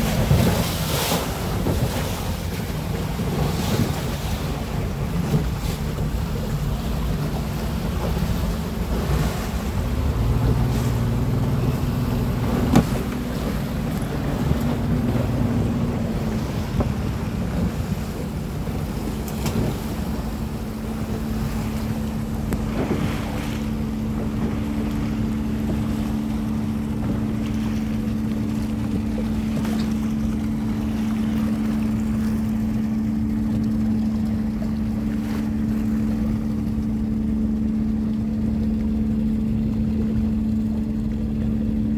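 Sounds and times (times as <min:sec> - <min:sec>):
speedboat engine: 0:00.0 - 0:41.9
water noise: 0:00.0 - 0:41.9
wind: 0:00.0 - 0:41.9.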